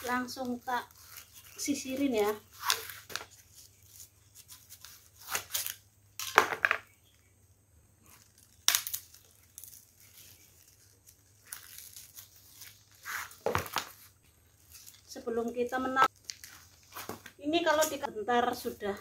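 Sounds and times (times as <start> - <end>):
bananas cracking and tearing off: 0.0 - 6.6, 8.0 - 18.0.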